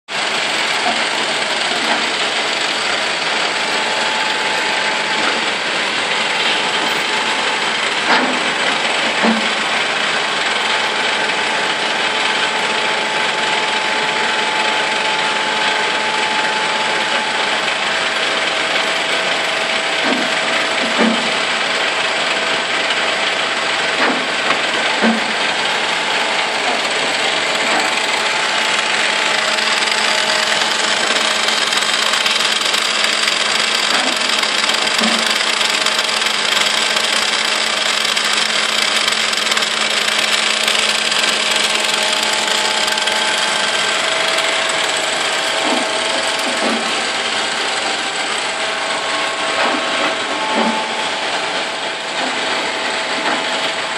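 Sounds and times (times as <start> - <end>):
lathe machine running: 0.1 - 53.9.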